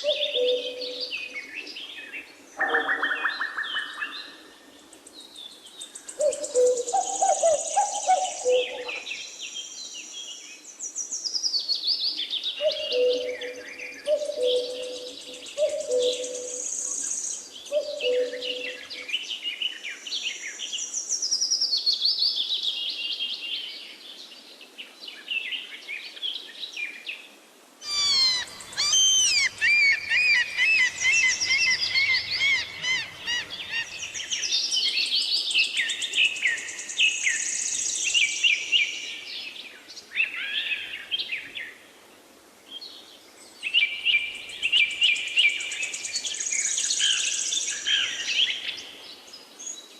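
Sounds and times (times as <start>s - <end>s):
songbirds singing: 0.0s - 41.9s.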